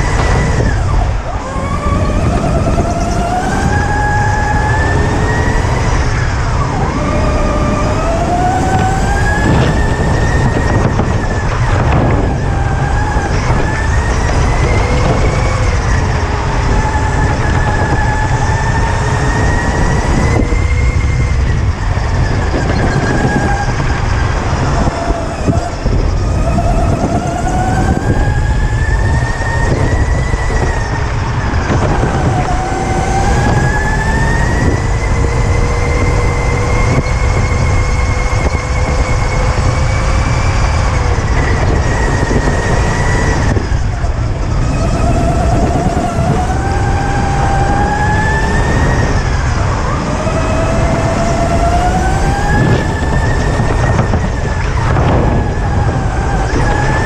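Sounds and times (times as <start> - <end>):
electric go-kart motor whining: 0.0 - 57.0
low rumble of wind and vibration: 0.0 - 57.0.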